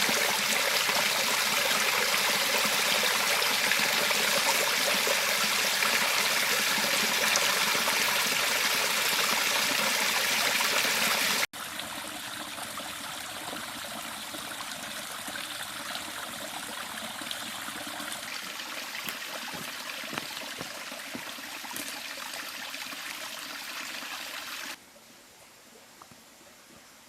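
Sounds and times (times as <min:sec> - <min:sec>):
river water running over stones: 0:00.0 - 0:24.8.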